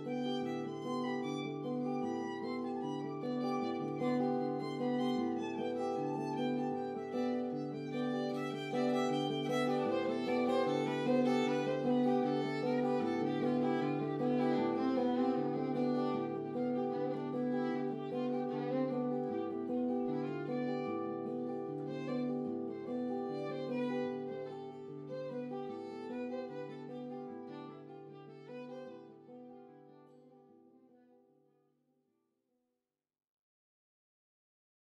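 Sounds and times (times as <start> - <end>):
violin-led instrumental music: 0.0 - 30.6.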